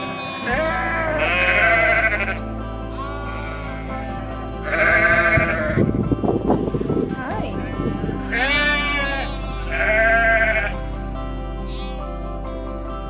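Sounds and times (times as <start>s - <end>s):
sheep bleating: 0.0s - 6.1s, 7.3s - 12.4s
background music: 0.0s - 13.0s.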